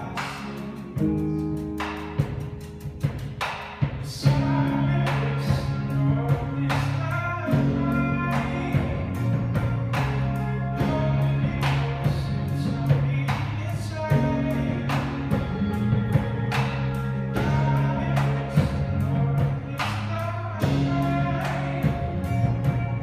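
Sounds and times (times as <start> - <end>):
drums steady beat: 0.0 - 23.0
electric guitars low notes: 0.0 - 23.0.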